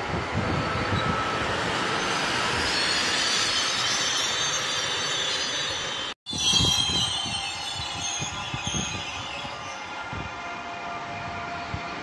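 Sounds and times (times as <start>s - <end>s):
high wheel squeal: 0.5s - 10.6s.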